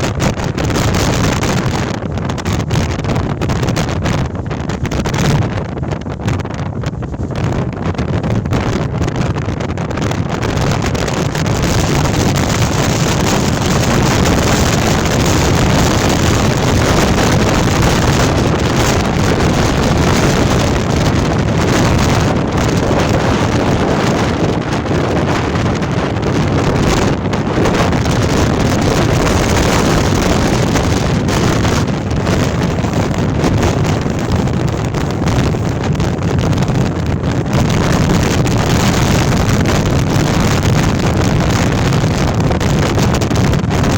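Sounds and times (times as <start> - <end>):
storm wind blasting microphone: 0.0 - 43.9.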